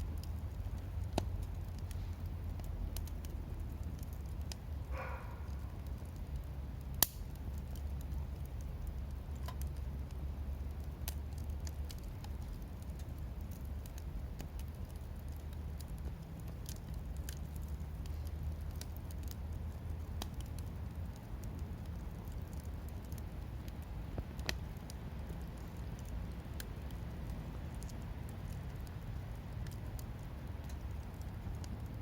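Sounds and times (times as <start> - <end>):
firewood crackling and popping: 0.0 - 32.0
low fire rumble: 0.0 - 32.0.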